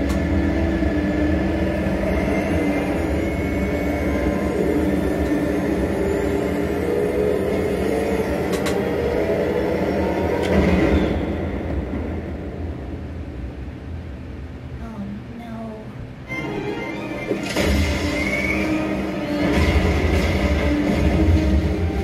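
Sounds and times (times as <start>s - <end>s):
engine drone with drifting whine: 0.0s - 14.4s, 16.3s - 22.0s.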